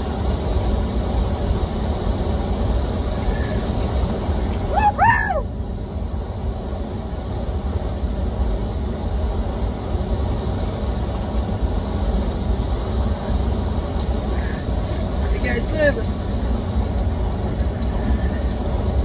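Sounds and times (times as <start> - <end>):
deep rumble: 0.0 - 19.0.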